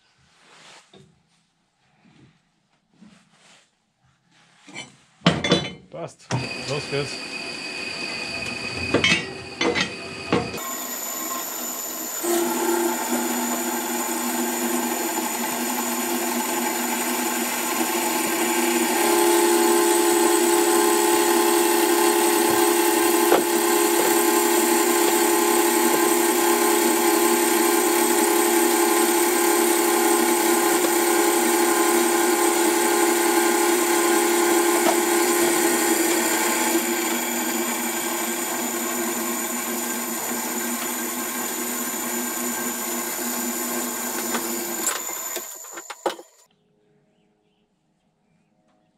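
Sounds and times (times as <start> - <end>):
band saw cutting metal: 6.3 - 46.4.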